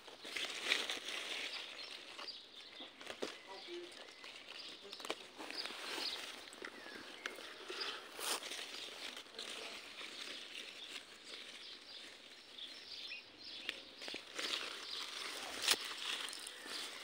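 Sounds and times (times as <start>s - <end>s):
plant leaves rustling: 0.0s - 17.0s.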